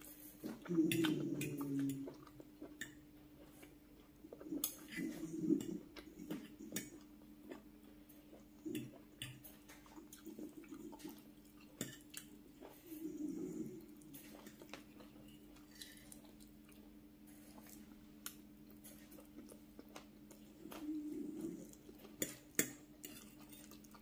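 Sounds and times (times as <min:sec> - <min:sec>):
close chewing: 0:00.0 - 0:24.0
faint steady hum: 0:00.0 - 0:24.0.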